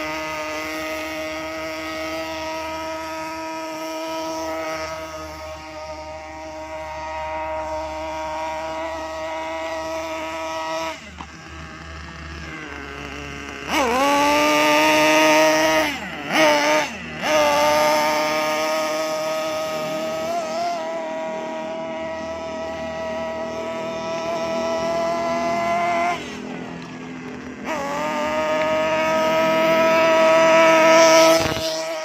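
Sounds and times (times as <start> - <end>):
small engine revving: 0.0 - 32.0.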